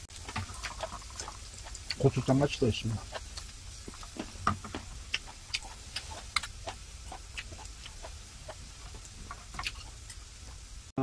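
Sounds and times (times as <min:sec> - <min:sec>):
meat crackling on grill pan: 0:00.0 - 0:10.9
faint sizzling hiss: 0:00.0 - 0:11.0.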